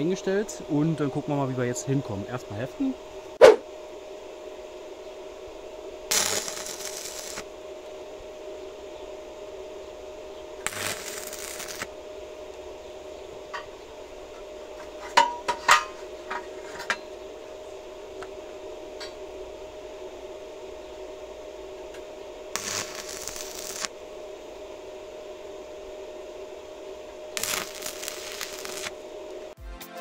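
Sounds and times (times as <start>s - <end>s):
welding arc crackling: 0.0s - 29.6s.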